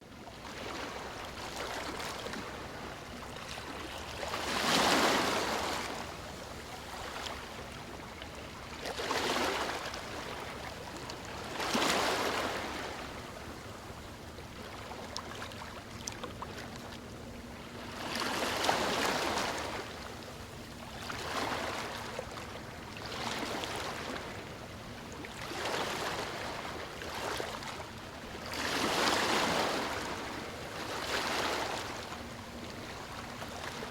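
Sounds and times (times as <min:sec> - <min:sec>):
ocean waves lapping on shore: 0:00.0 - 0:33.9.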